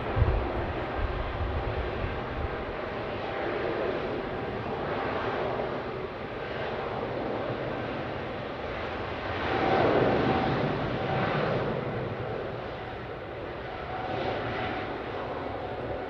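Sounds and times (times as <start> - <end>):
jet engines rushing with whine: 0.0 - 16.0.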